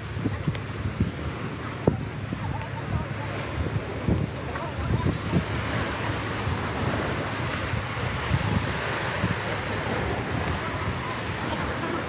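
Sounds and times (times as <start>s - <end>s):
surf on rocky shore: 0.0s - 12.0s
wind buffeting microphone: 0.0s - 12.0s.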